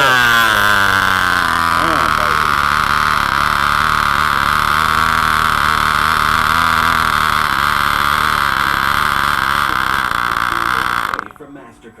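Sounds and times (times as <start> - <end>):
model glow engine whining: 0.0 - 11.7.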